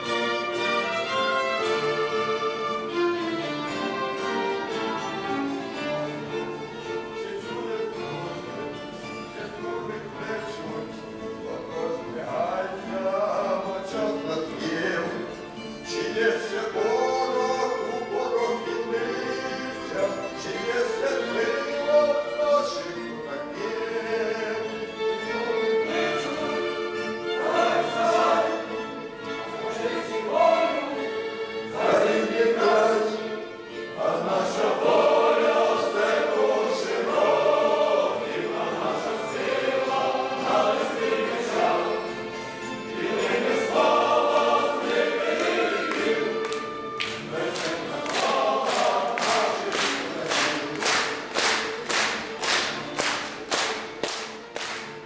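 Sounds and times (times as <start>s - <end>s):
plucked folk strings: 0.0s - 55.0s
violins: 0.0s - 55.0s
male vocal ensemble singing: 7.1s - 52.8s.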